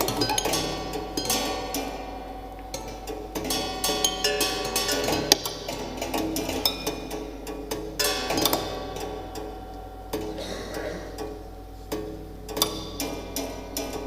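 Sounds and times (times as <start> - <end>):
ringing piano string notes: 0.0 - 14.0
solenoids clicking and tapping: 0.0 - 14.0.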